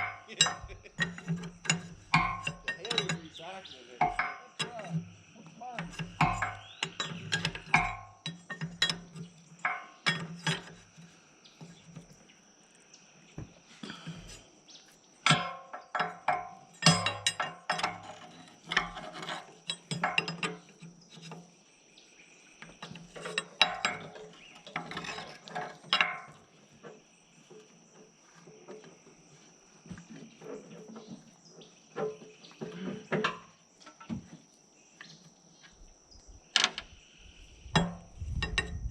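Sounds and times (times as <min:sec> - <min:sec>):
metal tools clanking: 0:00.0 - 0:12.2, 0:13.8 - 0:14.5, 0:15.2 - 0:21.6, 0:22.6 - 0:34.3, 0:37.6 - 0:38.9.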